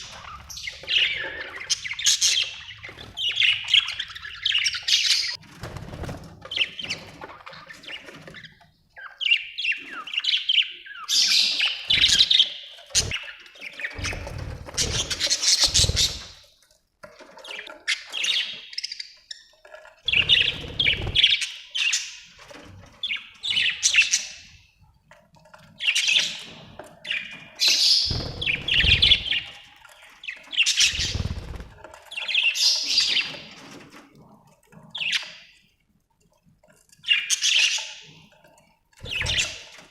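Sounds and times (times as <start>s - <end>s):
budgerigars chirping and warbling: 0.0s - 5.4s, 6.5s - 16.4s, 17.4s - 19.5s, 20.1s - 22.4s, 23.0s - 24.6s, 25.7s - 33.8s, 34.9s - 35.5s, 37.0s - 38.3s, 39.0s - 39.9s.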